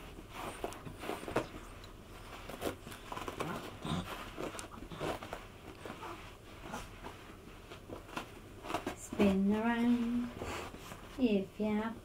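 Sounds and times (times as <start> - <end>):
dog rubbing on carpet: 0.0 - 11.3.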